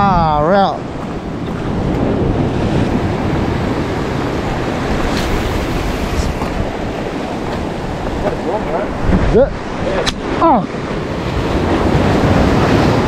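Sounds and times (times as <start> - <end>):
waves breaking on rocks: 0.0 - 13.0
wind buffeting microphone: 0.0 - 13.0.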